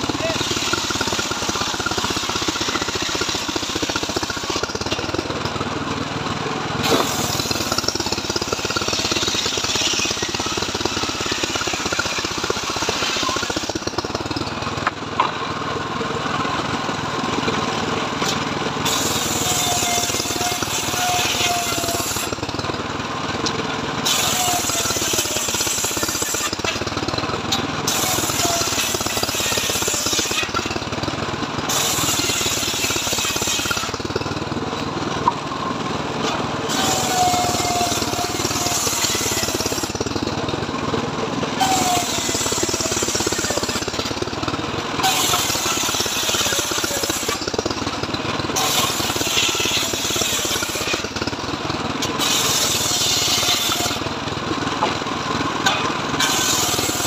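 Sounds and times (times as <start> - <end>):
saw blade cutting wood: 0.0 - 5.7, 6.8 - 15.4, 18.2 - 22.6, 23.4 - 35.5, 36.1 - 40.6, 41.4 - 54.2, 55.6 - 57.0
engine running steadily: 0.0 - 57.0.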